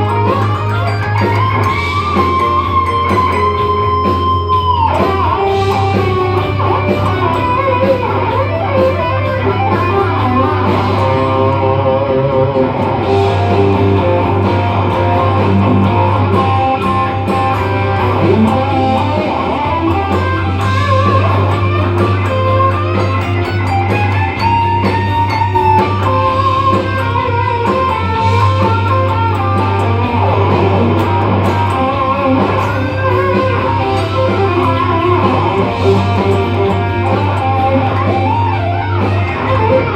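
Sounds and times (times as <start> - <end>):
electric guitar melody: 0.0 - 39.9.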